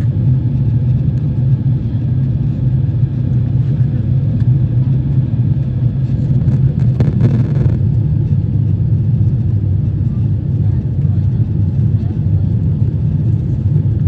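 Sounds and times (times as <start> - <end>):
aircraft cabin rumble: 0.0 - 14.0.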